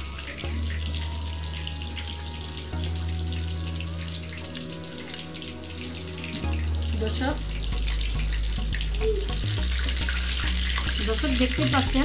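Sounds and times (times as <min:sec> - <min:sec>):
hot oil sizzling and crackling: 0:00.0 - 0:12.0.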